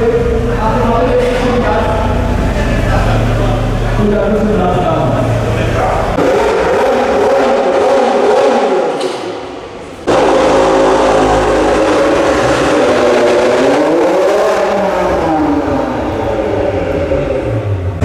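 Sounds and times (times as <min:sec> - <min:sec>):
car engine running loudly: 0:00.0 - 0:09.0, 0:10.0 - 0:18.0.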